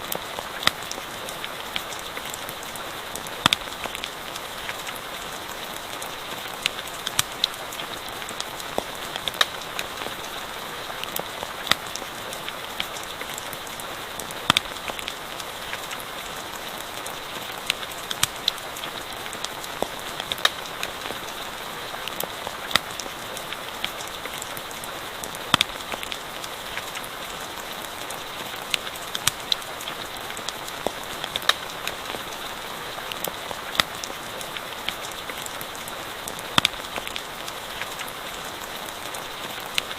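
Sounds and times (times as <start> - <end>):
steady rain falling: 0.0 - 39.9
campfire crackling and popping: 0.1 - 21.4, 22.0 - 39.9.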